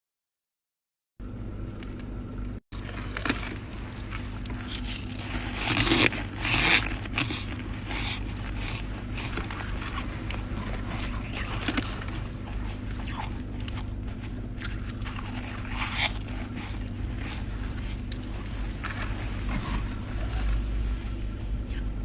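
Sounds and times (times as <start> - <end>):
steady low hum: 1.2 - 22.0
ice crunching in mouth: 2.8 - 20.8.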